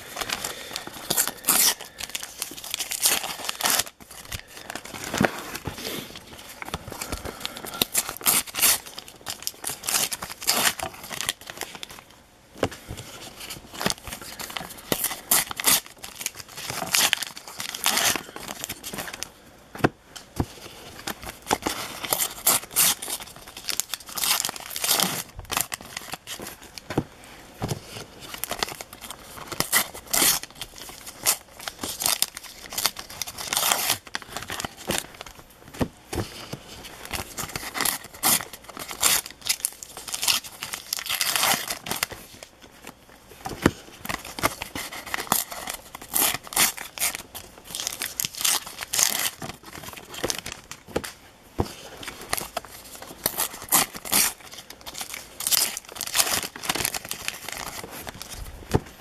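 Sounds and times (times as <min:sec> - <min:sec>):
paper wrappers tearing and crinkling: 0:00.0 - 0:12.1, 0:13.0 - 0:19.3, 0:20.6 - 0:26.8, 0:27.8 - 0:35.5, 0:36.2 - 0:59.0.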